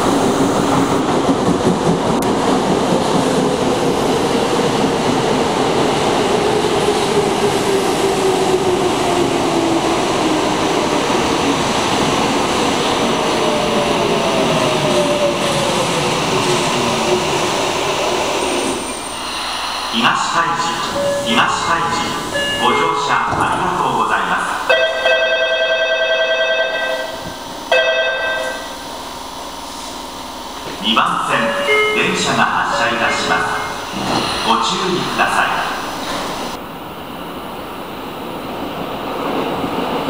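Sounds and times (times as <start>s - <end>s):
train wheels rumbling on rail: 0.0s - 40.0s.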